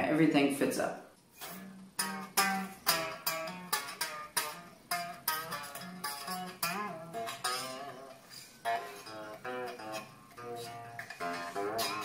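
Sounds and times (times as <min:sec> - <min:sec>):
electric guitar single notes: 0:01.4 - 0:12.0.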